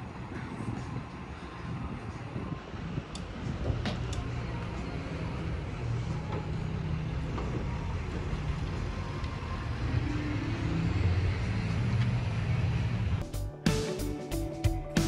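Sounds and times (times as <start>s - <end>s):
truck engine idling: 0.0s - 13.2s.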